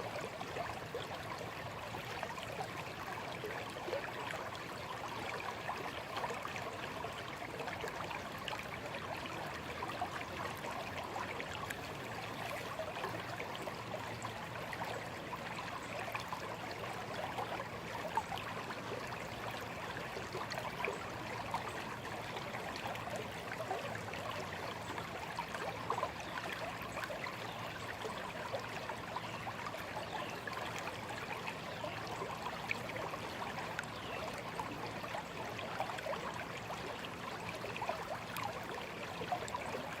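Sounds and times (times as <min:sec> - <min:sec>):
shallow stream babbling: 0:00.0 - 0:40.0.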